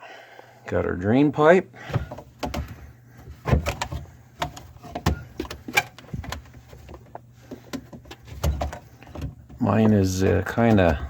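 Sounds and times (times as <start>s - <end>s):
drain pipe clicks and knocks: 1.8s - 11.0s.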